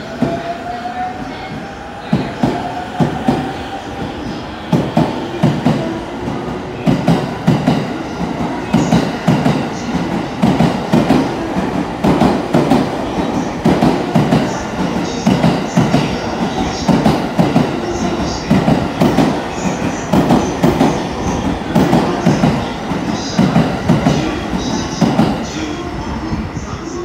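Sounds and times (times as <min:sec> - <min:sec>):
train wheels clacking on rails: 0:00.0 - 0:25.8.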